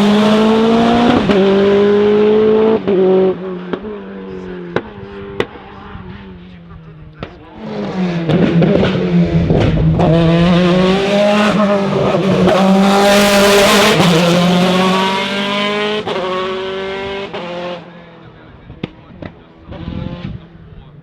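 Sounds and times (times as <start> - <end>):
race car engine passing: 0.0 - 20.8.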